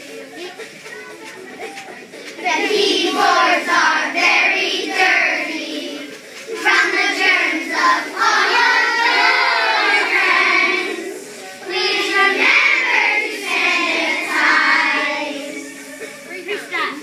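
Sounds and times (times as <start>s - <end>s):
children singing in unison: 2.4s - 16.2s.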